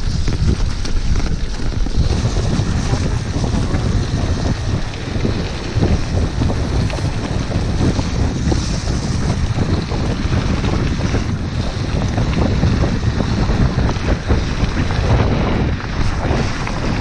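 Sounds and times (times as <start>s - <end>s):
bike tyres rumbling and rattling: 0.0s - 17.0s
wind buffeting microphone: 0.0s - 17.0s.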